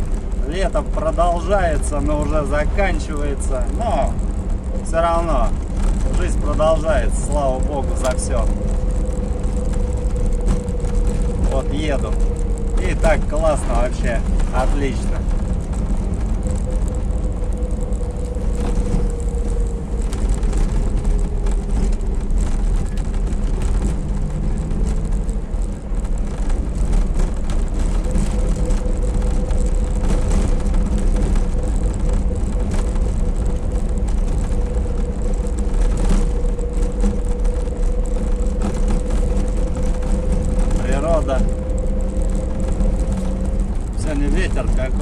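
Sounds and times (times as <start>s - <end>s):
small rattles and creaks: 0.0s - 45.0s
steady whine: 0.0s - 45.0s
vehicle engine and road rumble: 0.0s - 45.0s.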